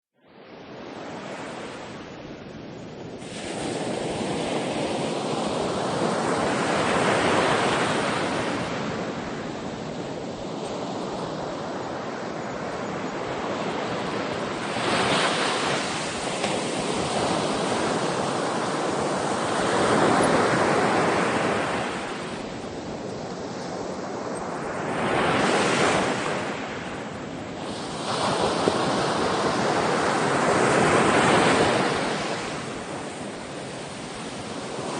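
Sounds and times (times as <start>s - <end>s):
ocean waves breaking on shore: 0.5s - 34.9s.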